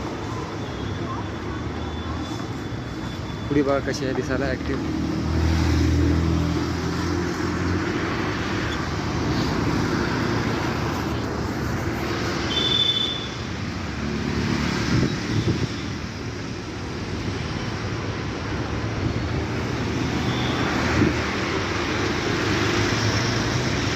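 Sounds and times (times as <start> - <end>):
traffic noise: 0.0 - 23.9.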